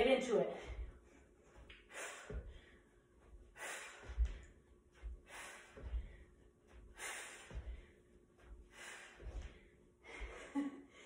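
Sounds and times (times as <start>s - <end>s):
woman breathing hard: 0.5s - 11.0s
bare feet thudding on rug: 0.6s - 10.4s.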